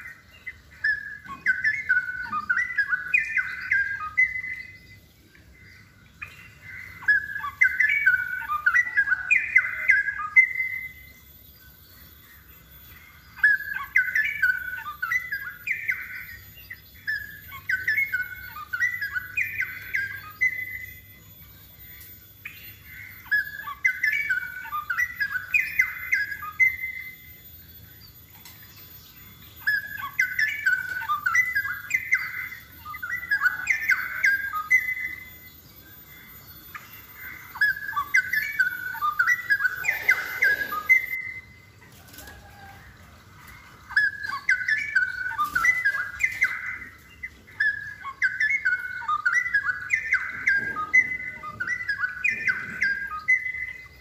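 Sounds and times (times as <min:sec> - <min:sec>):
bird singing bubbling warble: 0:00.0 - 0:54.0.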